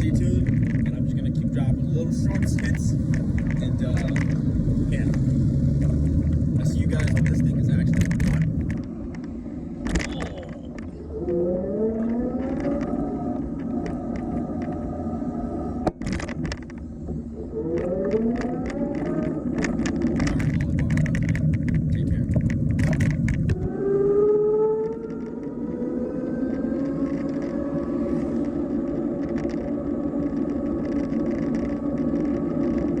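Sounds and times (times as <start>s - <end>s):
rumble of wind and tyres: 0.0s - 33.0s.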